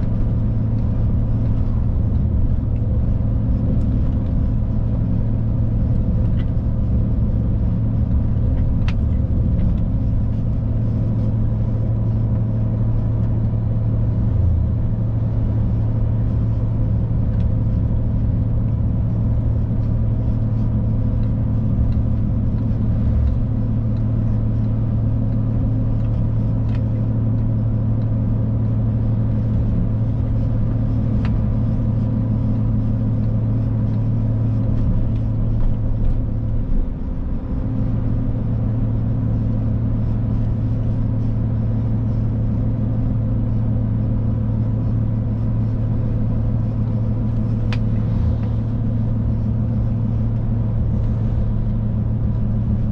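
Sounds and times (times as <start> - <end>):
truck engine low drone: 0.0 - 52.9
tyre and road noise: 0.0 - 52.9.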